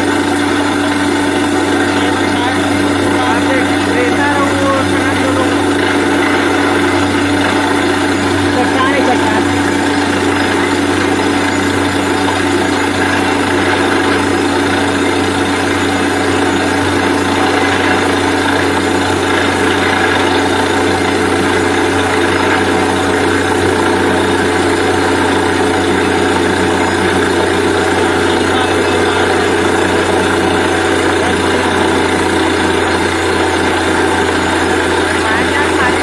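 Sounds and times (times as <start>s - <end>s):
drilling rig engine droning: 0.0s - 36.0s.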